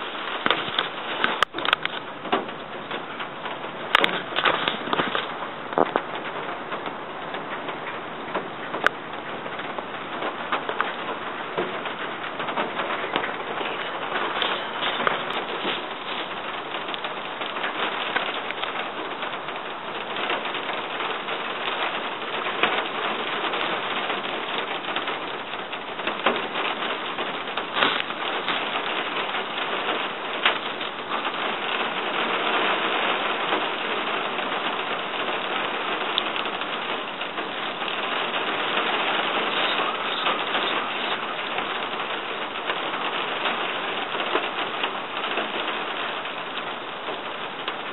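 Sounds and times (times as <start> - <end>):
rain falling on grass and leaves: 0.0 - 47.9.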